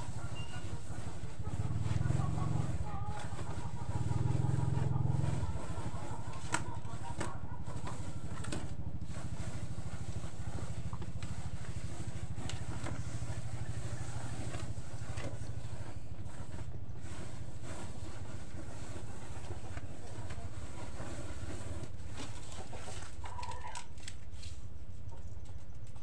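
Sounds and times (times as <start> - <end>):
small engine idling: 0.0 - 23.2.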